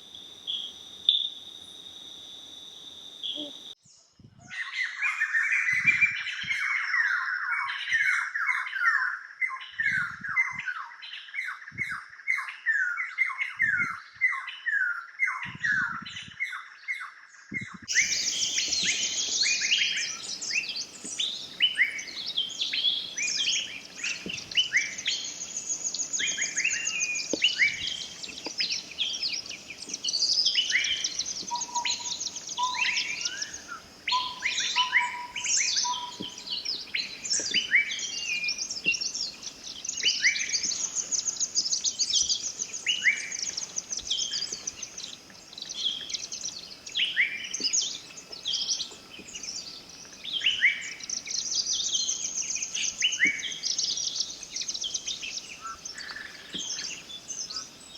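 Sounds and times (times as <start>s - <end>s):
birds singing and calling: 3.2s - 16.7s, 17.4s - 57.9s.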